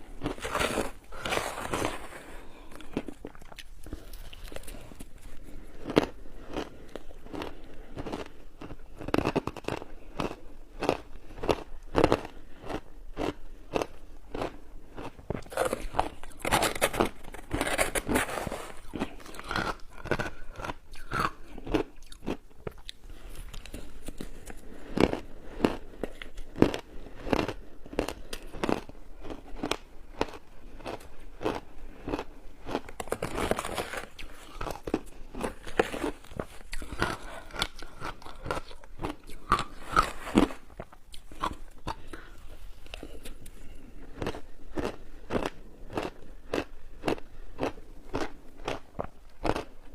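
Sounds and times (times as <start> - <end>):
shaved ice crunching in chewing: 0.0 - 42.3.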